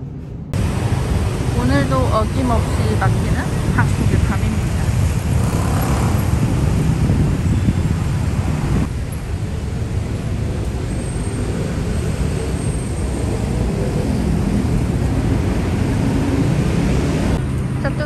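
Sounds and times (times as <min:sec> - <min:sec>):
heavy street traffic rumble: 0:00.0 - 0:18.0.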